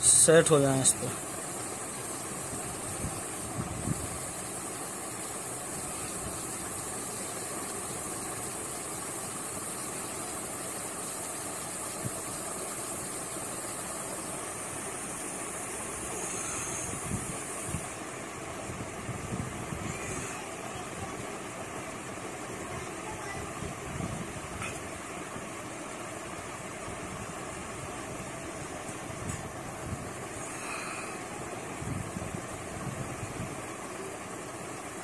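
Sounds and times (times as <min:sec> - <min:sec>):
heating machine whirring hum: 0:00.0 - 0:35.0.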